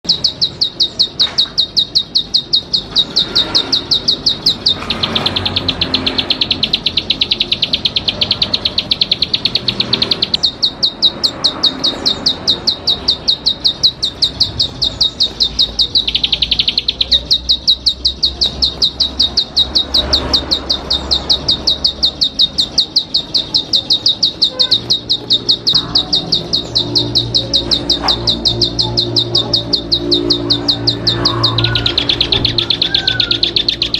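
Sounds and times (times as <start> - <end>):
bird calling in high chips: 0.0 - 33.9.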